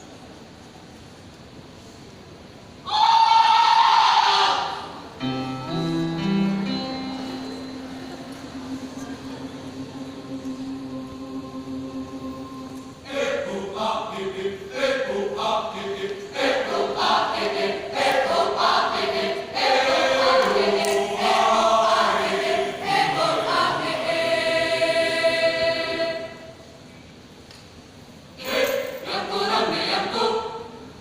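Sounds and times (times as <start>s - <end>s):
choir singing: 2.9s - 26.7s, 28.4s - 31.0s.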